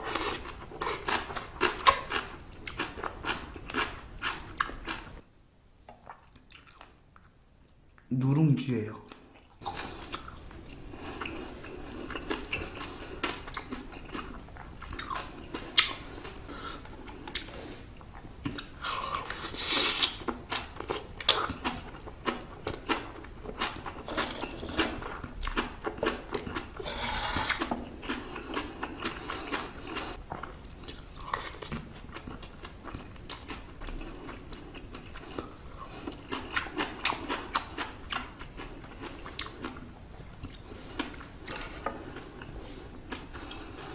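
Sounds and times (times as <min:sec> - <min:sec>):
chewing crispy rice: 0:00.0 - 0:05.2, 0:09.1 - 0:43.9.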